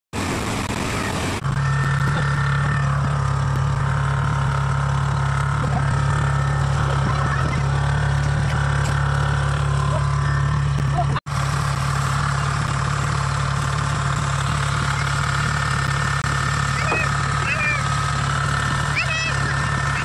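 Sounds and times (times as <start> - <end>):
diesel engine humming: 0.2 - 20.0
high machine whine: 0.2 - 20.0.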